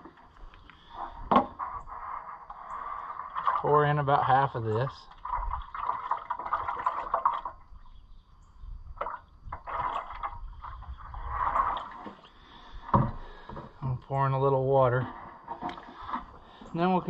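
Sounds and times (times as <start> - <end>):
coolant glugging and splashing: 0.0 - 8.2, 8.8 - 17.0.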